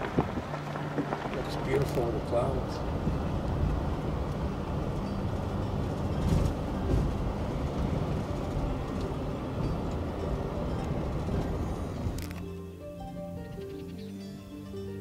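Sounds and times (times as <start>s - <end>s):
tyres rumbling on gravel: 0.0s - 13.6s
car engine drone: 0.0s - 15.0s.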